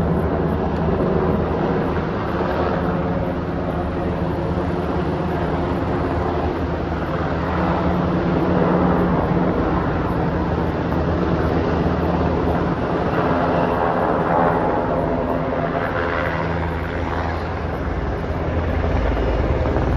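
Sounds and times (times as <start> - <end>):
helicopter rotor drone: 0.0 - 19.9.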